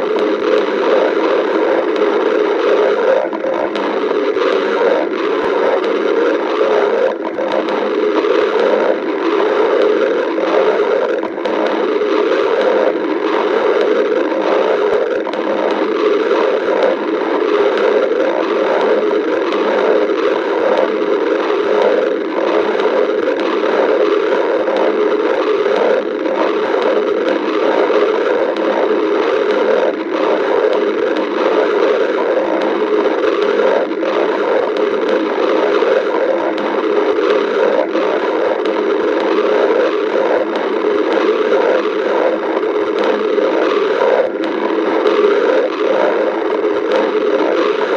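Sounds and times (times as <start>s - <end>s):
stomach growling and gurgling: 0.0s - 47.9s.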